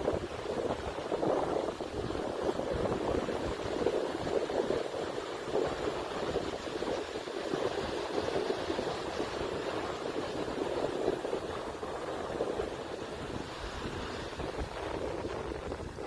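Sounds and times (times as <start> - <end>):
strong wind: 0.0 - 16.0
surf rushing: 0.0 - 16.0
wind buffeting microphone: 0.0 - 16.0.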